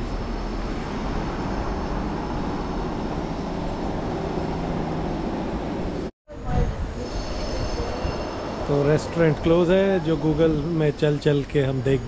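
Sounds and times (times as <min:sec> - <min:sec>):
street noise rumble and hiss: 0:00.0 - 0:12.0.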